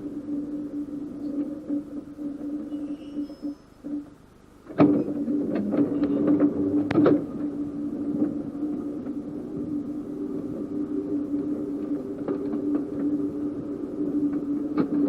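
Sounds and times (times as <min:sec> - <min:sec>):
electric tram humming: 0:00.0 - 0:15.0.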